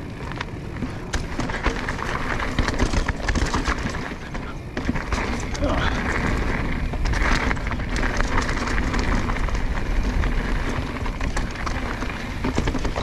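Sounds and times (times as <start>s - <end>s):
bike rattling and knocking: 0.0s - 13.0s
tyres rolling over dirt and rock: 0.0s - 13.0s
wind rumble on microphone: 0.0s - 13.0s.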